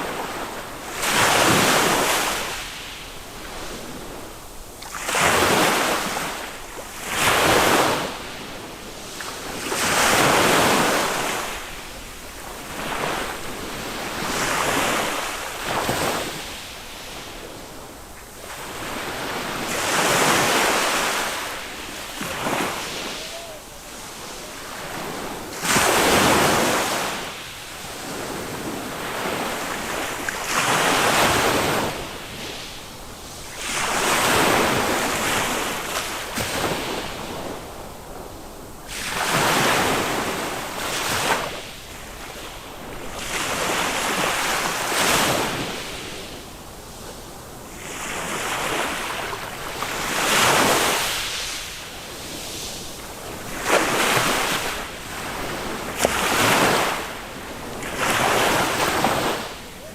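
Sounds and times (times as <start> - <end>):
small waves breaking on beach: 0.0 - 59.9.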